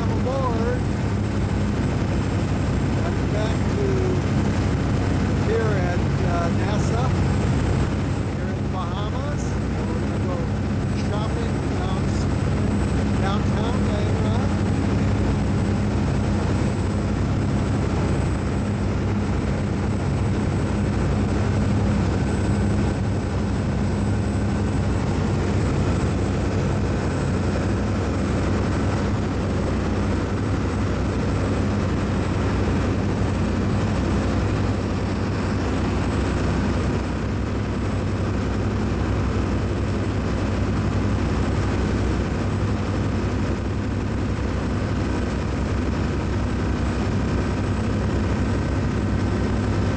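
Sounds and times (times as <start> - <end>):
machinery drone: 0.0 - 49.9.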